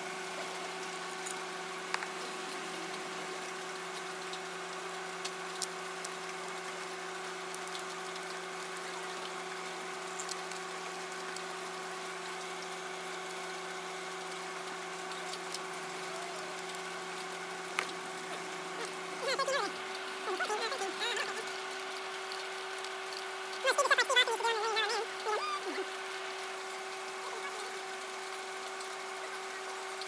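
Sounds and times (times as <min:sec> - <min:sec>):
steady machine hum: 0:00.0 - 0:29.9.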